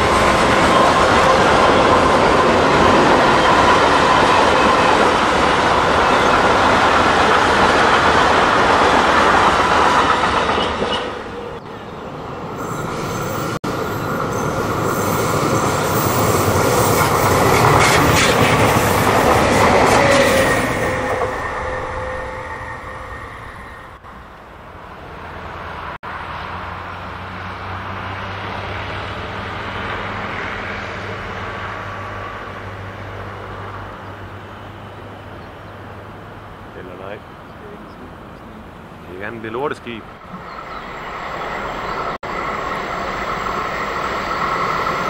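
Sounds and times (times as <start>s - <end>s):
freight train wheel noise: 0.0s - 45.0s.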